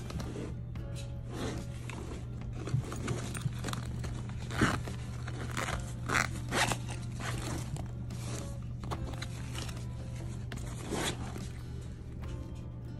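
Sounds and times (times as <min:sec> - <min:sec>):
zipper being worked: 0:00.0 - 0:11.9.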